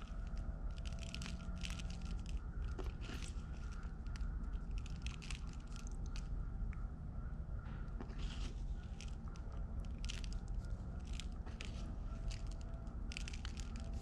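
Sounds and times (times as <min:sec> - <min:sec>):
granules crackling and ticking: 0:00.0 - 0:06.9, 0:07.9 - 0:14.0.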